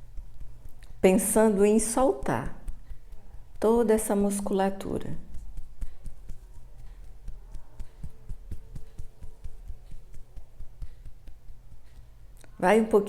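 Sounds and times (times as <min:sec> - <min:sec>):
fingertips tapping on skin: 0:00.0 - 0:12.6
low steady hum: 0:00.0 - 0:13.0.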